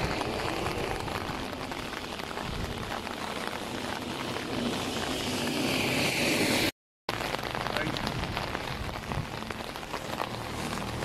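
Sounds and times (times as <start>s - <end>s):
steady rain falling: 0.0s - 11.0s
wind: 0.0s - 11.0s.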